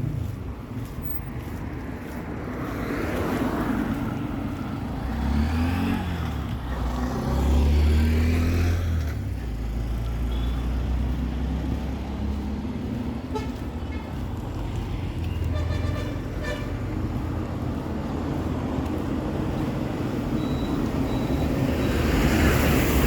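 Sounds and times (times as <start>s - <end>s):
street traffic: 0.0s - 23.0s
vehicle passing by: 0.0s - 23.0s.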